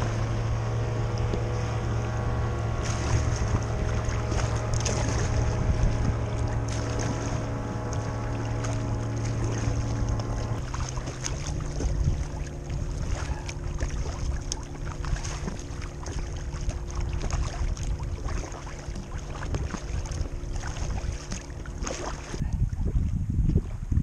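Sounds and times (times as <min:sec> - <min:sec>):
water lapping against kayak hull: 0:00.0 - 0:24.0
wind buffeting microphone: 0:00.0 - 0:24.0.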